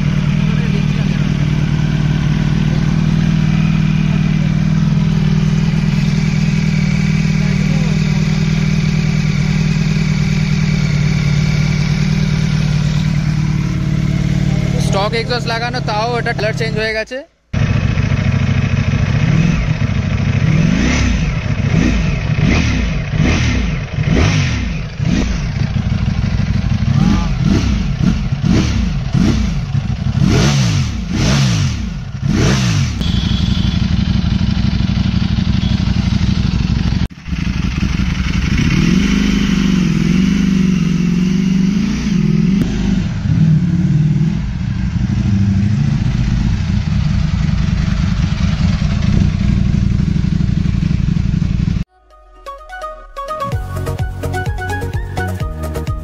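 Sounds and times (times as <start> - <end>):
motorcycle engine idling low: 0.0 - 16.8, 17.6 - 51.9
motorcycle engine revving: 0.0 - 16.9, 17.5 - 51.9.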